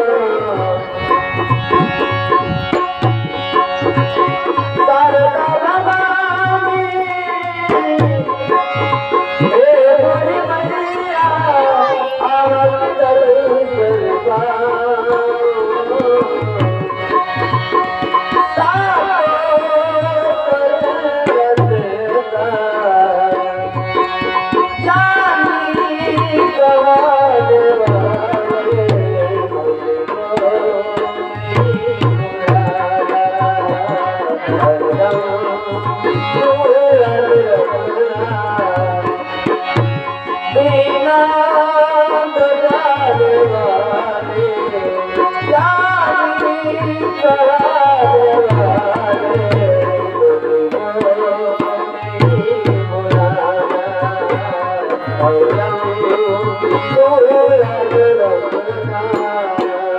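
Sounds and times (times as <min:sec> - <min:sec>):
tabla rhythm: 0:00.0 - 0:59.9.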